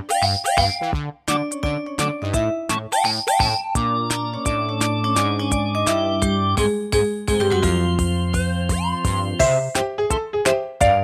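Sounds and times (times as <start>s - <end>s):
cheerful keyboard tune with beat: 0.0s - 11.0s.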